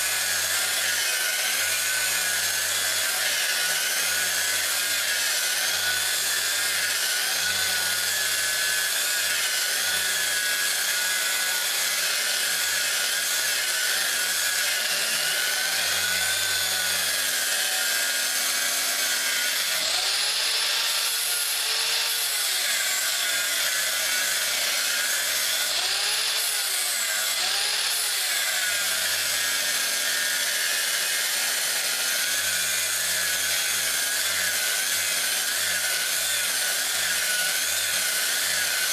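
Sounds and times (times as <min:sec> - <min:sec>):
grinder grinding steel blade: 0:00.0 - 0:38.9.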